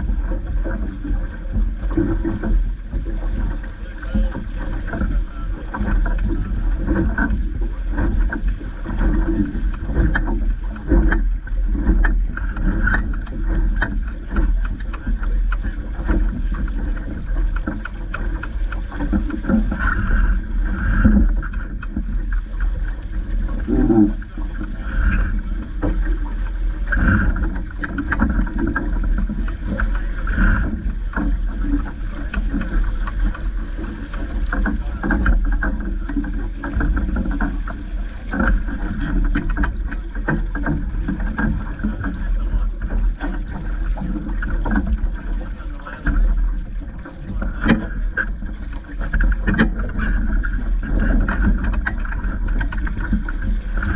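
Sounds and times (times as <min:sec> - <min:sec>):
water slapping against hull: 0:00.0 - 0:53.9
wind rumble on microphone: 0:00.0 - 0:53.9.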